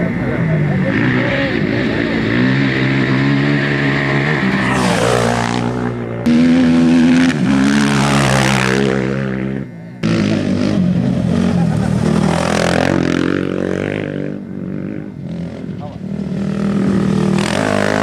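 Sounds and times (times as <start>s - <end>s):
race vehicle engines droning: 0.0s - 18.0s.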